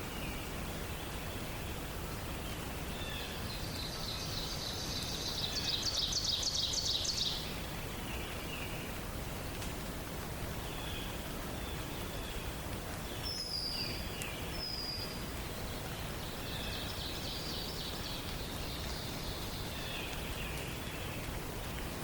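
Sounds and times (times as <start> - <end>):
songbirds singing: 0.0 - 22.0
steady background hiss: 0.0 - 22.0.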